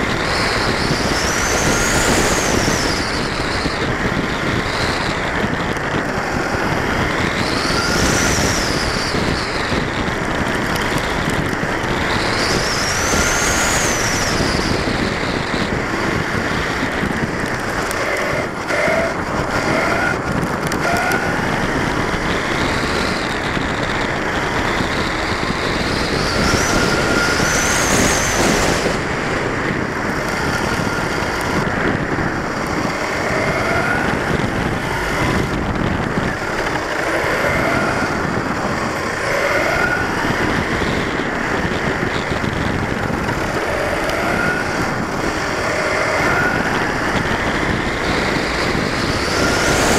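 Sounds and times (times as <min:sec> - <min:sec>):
electric motor whine: 0:00.0 - 0:49.9
gears and tyres rushing: 0:00.0 - 0:49.9.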